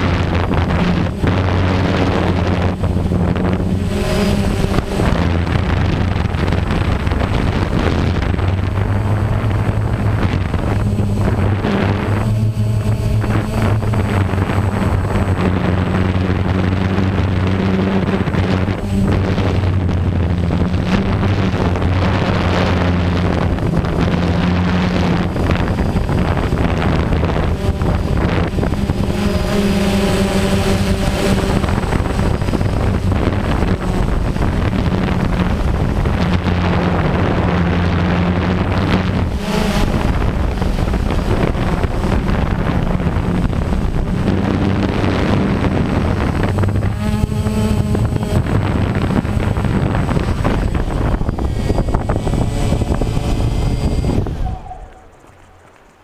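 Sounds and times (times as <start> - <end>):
drone propellers droning: 0.0 - 56.0
wind on microphone: 0.0 - 56.0.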